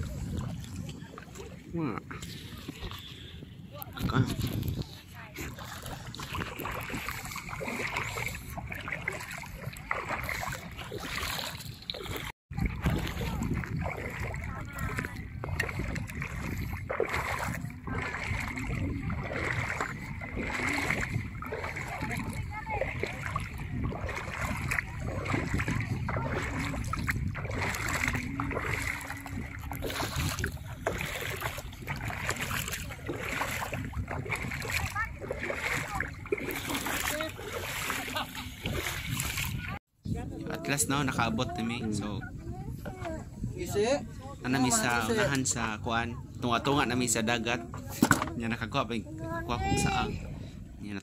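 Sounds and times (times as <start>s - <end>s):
water splashing and sloshing: 0.0s - 51.0s.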